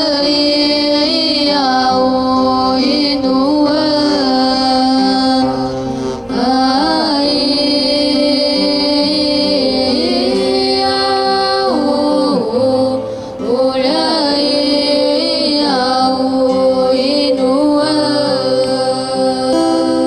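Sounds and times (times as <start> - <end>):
group singing in parts: 0.0 - 20.0.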